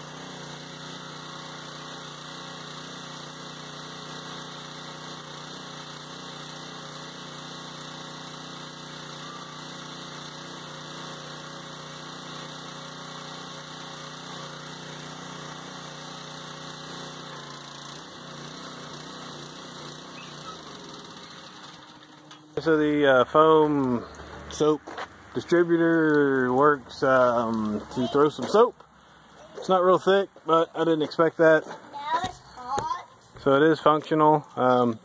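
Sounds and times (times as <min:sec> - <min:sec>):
pressure washer engine running: 0:00.0 - 0:35.0.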